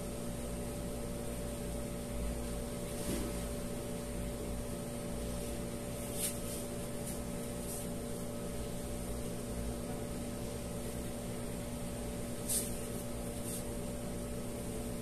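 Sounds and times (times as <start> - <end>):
electrical room hum: 0.0 - 15.0.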